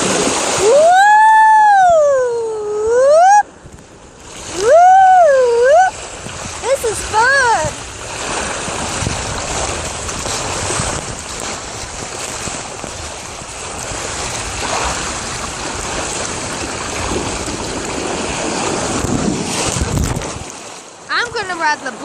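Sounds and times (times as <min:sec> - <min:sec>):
water rushing down slide: 0:00.0 - 0:22.0
wind buffeting microphone: 0:00.0 - 0:22.0.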